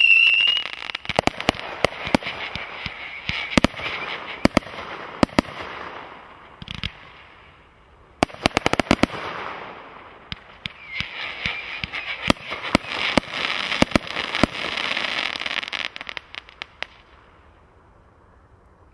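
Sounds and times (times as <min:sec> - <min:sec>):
firework bangs: 0:00.0 - 0:07.2, 0:08.2 - 0:17.1
firework crackling: 0:00.0 - 0:17.4.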